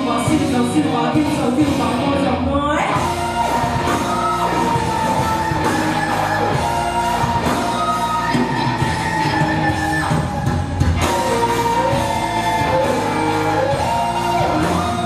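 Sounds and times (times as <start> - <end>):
pop-rock music: 0.0 - 15.0.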